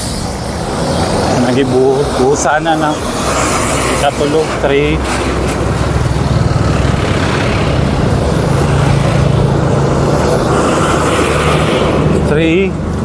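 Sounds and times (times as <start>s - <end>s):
low engine drone: 0.0s - 13.0s
motorcycles passing: 0.0s - 13.0s
road traffic passing: 0.0s - 13.0s.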